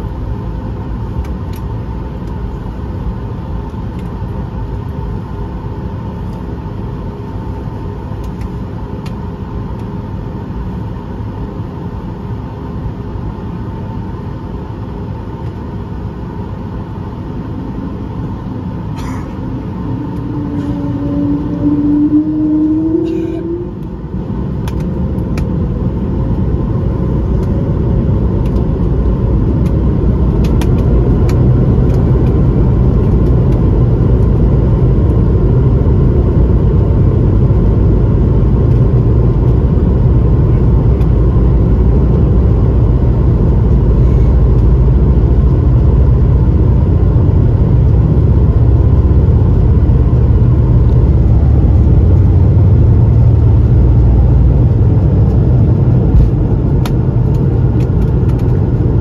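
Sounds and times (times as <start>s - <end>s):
jet engines at takeoff power: 0.0s - 59.0s.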